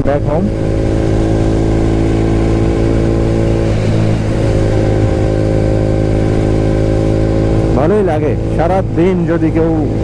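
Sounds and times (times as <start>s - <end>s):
wind noise on microphone: 0.0s - 8.9s
motorcycle engine cruising: 0.0s - 10.0s.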